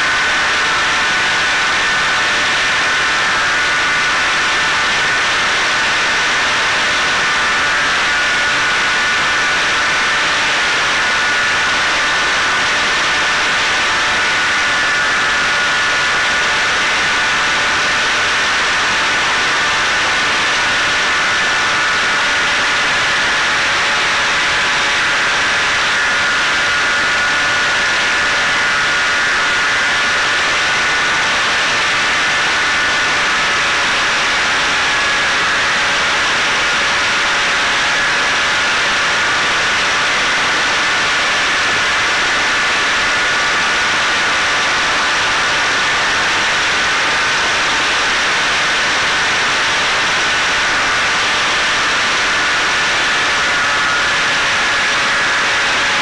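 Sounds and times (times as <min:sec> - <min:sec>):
drone motor whine: 0:00.0 - 0:56.0.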